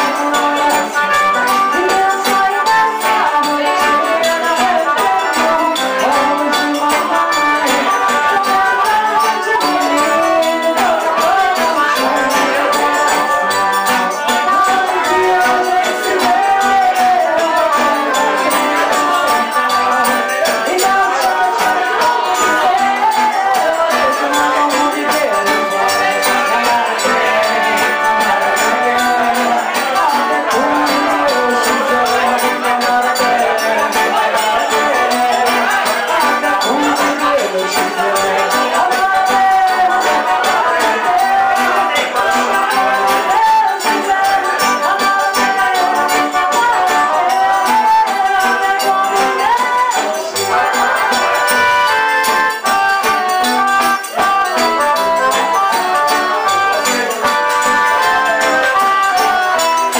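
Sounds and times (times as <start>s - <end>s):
accordion: 0.0s - 59.9s
guitar: 0.0s - 59.9s
shaken hand percussion: 0.0s - 59.9s.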